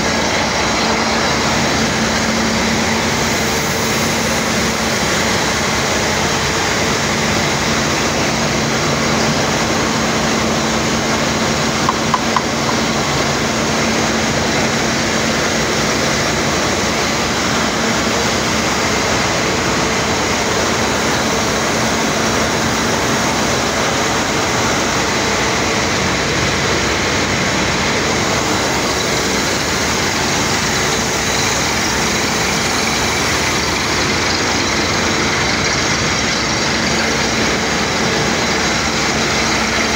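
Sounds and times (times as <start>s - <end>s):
drilling rig engine drone: 0.0s - 39.9s.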